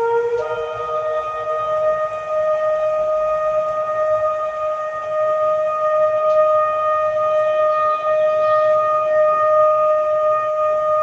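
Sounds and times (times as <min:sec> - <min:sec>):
held high musical note: 0:00.0 - 0:11.0.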